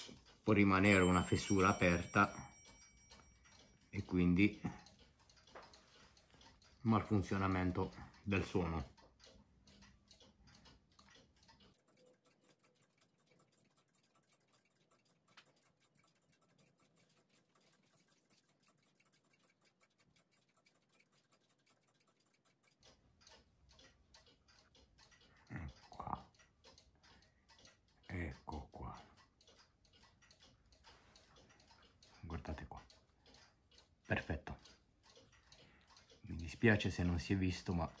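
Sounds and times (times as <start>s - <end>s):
clock ticking faintly: 0.0s - 38.0s.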